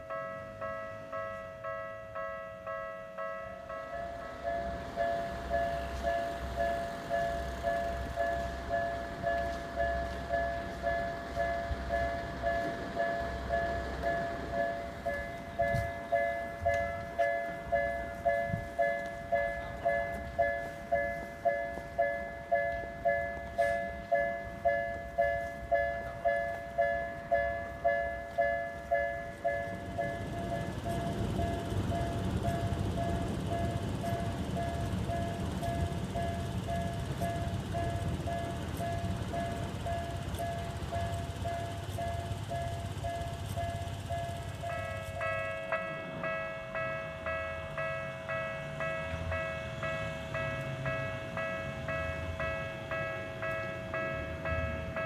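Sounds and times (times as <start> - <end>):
railroad crossing warning bell: 0.0 - 55.0
train rumbling past: 0.0 - 55.0.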